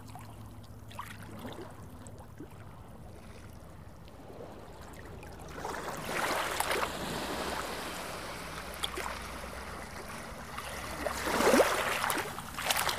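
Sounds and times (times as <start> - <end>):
small waves lapping on sand: 0.9 - 12.9.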